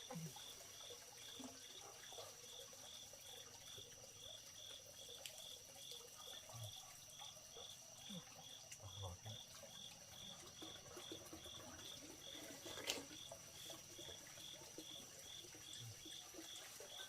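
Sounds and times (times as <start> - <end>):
insect high-pitched buzz: 0.0 - 17.0
insect pulsing chirp: 0.0 - 17.0.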